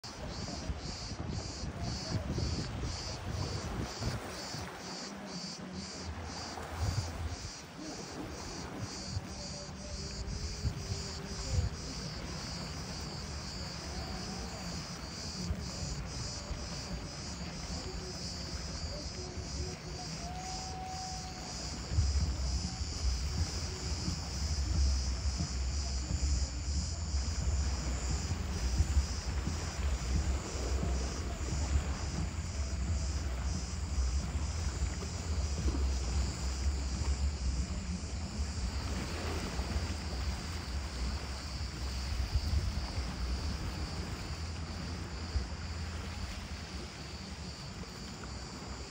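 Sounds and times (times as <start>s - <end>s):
cicadas buzzing: 0.0s - 48.9s
wind buffeting microphone: 0.0s - 48.9s.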